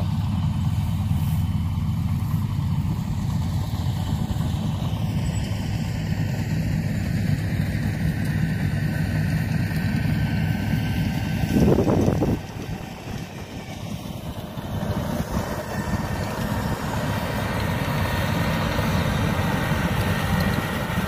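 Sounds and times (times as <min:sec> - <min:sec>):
combine harvester diesel engine: 0:00.0 - 0:21.0.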